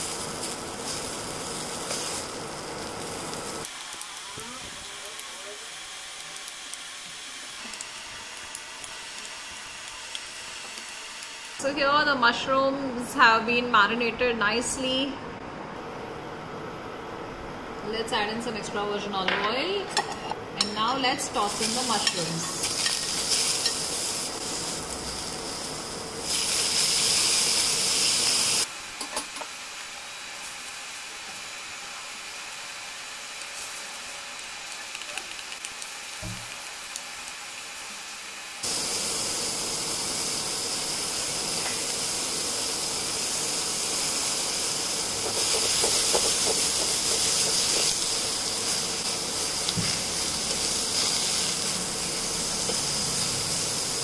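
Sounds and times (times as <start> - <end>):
mushrooms sizzling in oil: 0.0 - 11.7, 19.3 - 54.0.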